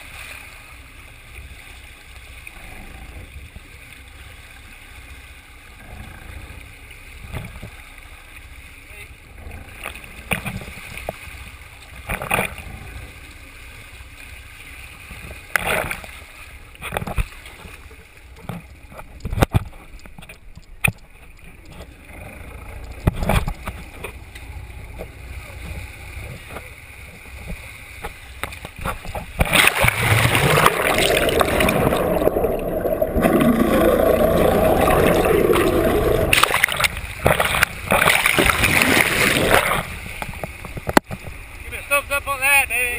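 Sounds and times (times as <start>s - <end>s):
water sloshing against hull: 0.0s - 42.2s
rush of water and boat noise: 0.0s - 42.9s.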